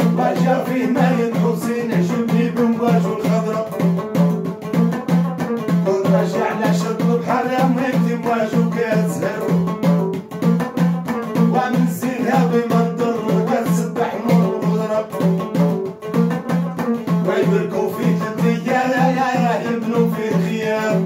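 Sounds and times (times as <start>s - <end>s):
man singing: 0.0s - 4.6s, 5.6s - 10.0s, 11.2s - 15.8s, 16.9s - 21.0s
plucked lute: 0.0s - 21.0s.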